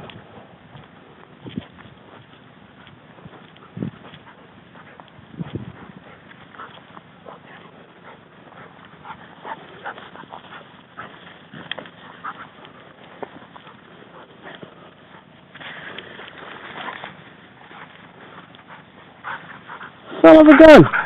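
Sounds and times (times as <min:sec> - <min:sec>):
dogs tapping and rustling: 0:00.8 - 0:20.0.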